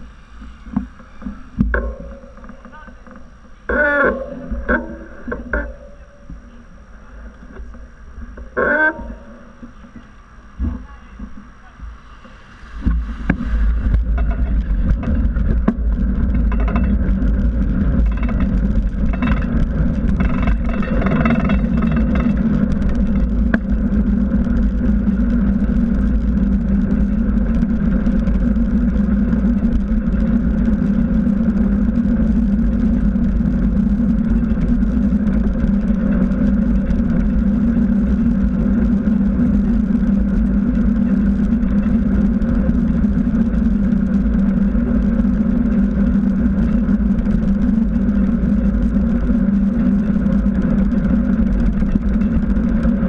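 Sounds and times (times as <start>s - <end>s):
tyre humming on asphalt: 0.0s - 53.0s
wind rumble on microphone: 0.0s - 53.0s.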